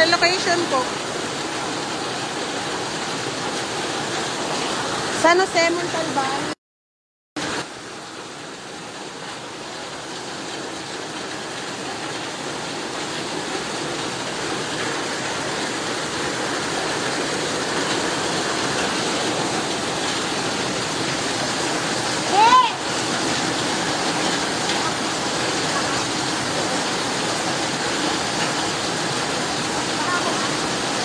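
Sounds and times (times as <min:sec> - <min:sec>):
floodwater rushing: 0:00.0 - 0:06.6, 0:07.4 - 0:31.0
heavy rain: 0:00.0 - 0:06.6, 0:07.4 - 0:31.0.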